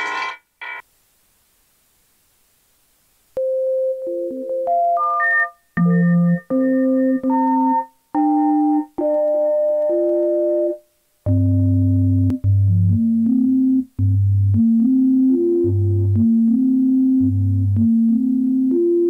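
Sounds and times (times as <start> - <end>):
synthesized tone notes and chords: 3.4 - 19.0.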